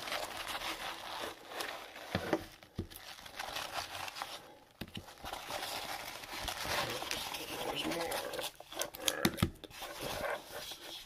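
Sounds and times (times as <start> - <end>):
plastic card sleeves crinkling: 0.0 - 11.0.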